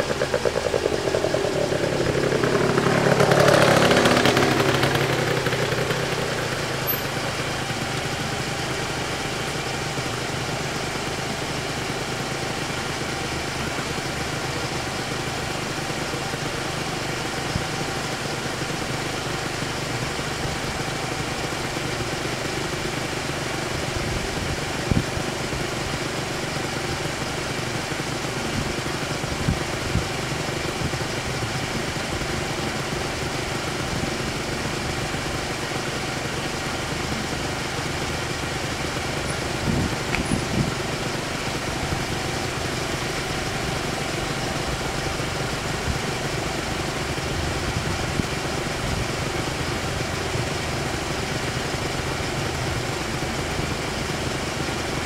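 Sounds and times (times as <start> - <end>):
vehicle engines idling: 0.0 - 55.0.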